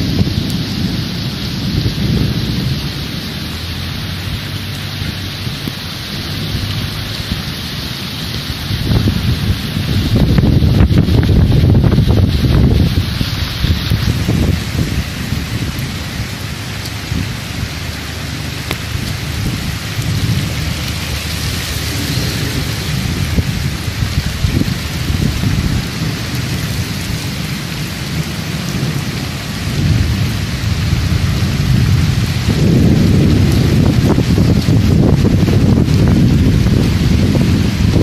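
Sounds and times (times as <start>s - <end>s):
floodwater running: 0.0s - 38.0s
heavy rain falling: 0.0s - 38.0s
low rumbling: 0.0s - 38.0s.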